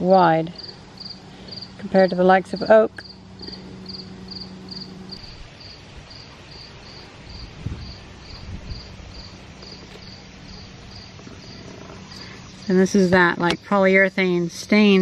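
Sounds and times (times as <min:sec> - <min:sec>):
low steady hum: 0:00.0 - 0:15.0
cricket chirping: 0:00.6 - 0:13.8.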